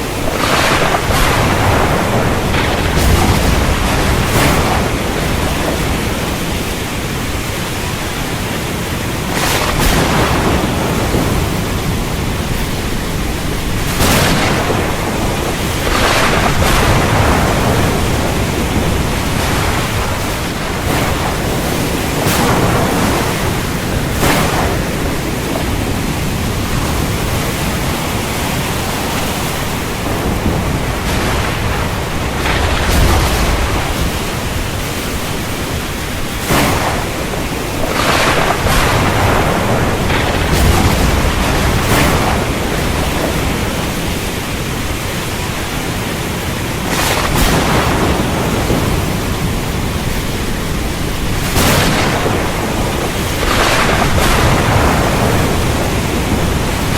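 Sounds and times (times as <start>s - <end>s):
low rumble of thunder: 0.0s - 45.7s, 46.7s - 56.9s
heavy rain pouring: 0.0s - 56.9s.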